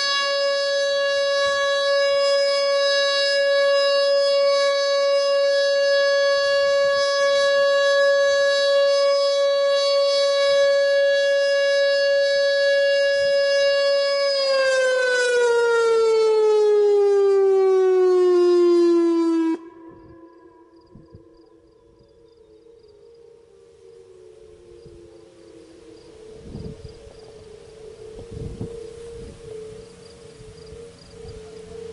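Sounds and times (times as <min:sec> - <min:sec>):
warning siren alert tone: 0:00.0 - 0:31.9.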